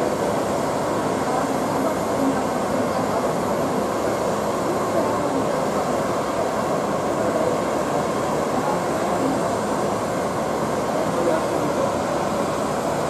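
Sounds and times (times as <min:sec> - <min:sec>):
propeller plane engines taxiing: 0:00.0 - 0:13.0.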